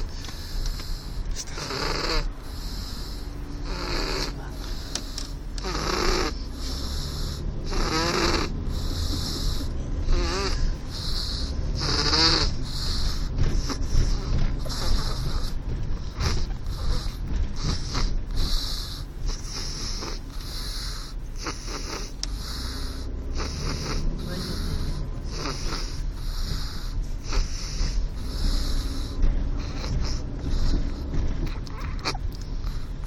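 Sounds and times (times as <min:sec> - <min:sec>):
baby snoring: 0:00.0 - 0:33.0
low steady rumble: 0:00.0 - 0:33.0.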